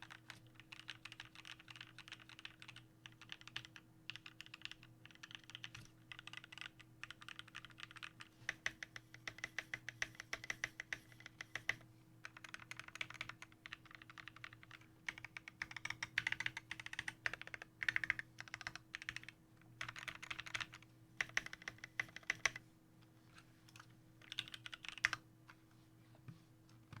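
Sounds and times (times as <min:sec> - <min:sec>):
mechanical keyboard typing: 0:00.0 - 0:22.6, 0:24.2 - 0:25.2.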